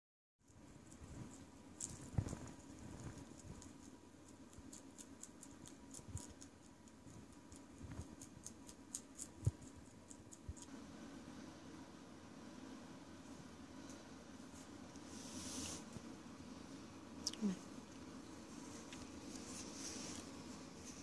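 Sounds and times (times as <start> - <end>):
rabbit chewing hay: 0.4 - 21.0.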